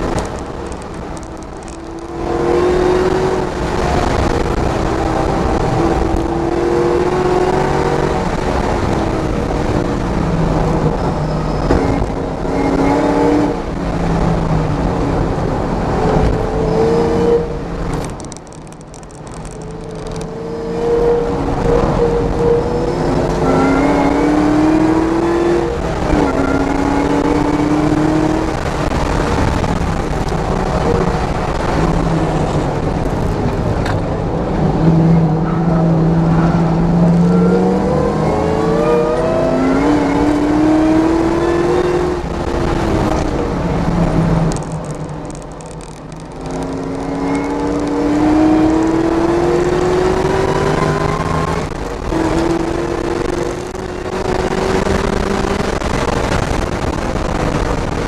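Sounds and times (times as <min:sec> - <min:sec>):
car engine accelerating: 0:00.0 - 0:58.0
wind and tyre noise: 0:00.0 - 0:58.0.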